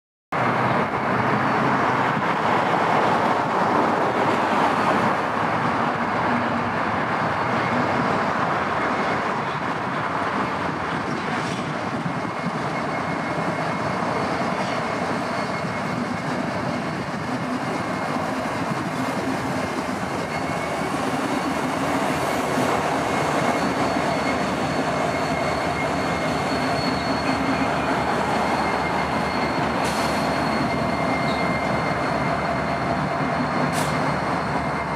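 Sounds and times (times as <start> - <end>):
wheels squealing on rails: 0.4 - 34.9
higher wheel squeal: 3.4 - 34.9
locomotive engines running: 4.5 - 34.9.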